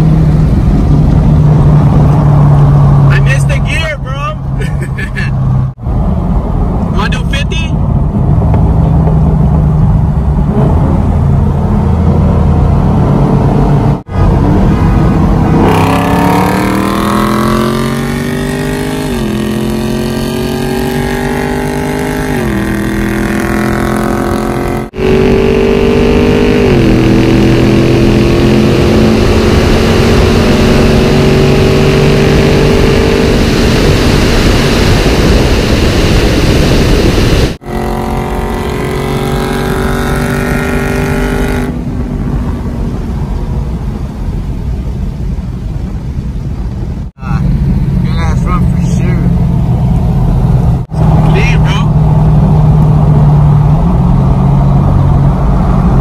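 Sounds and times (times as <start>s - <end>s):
car engine at full throttle: 0.0s - 56.0s.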